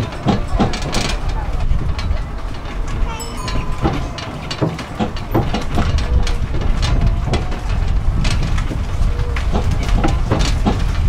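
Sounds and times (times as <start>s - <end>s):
carriages rattling and knocking: 0.0s - 11.0s
road train low rumble: 0.0s - 11.0s.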